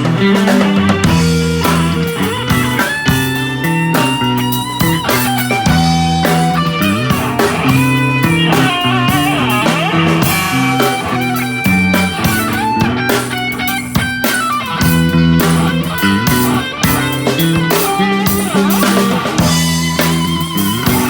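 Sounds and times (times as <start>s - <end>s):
bass guitar: 0.0s - 21.0s
drums: 0.0s - 21.0s
electric guitar lead: 0.0s - 21.0s.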